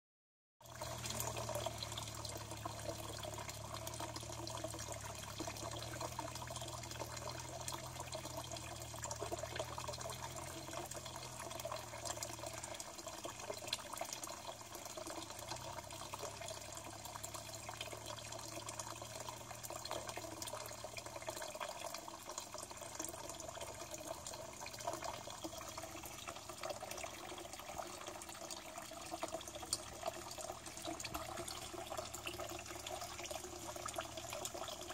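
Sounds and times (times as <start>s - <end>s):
water trickling into pond: 0.6s - 34.9s.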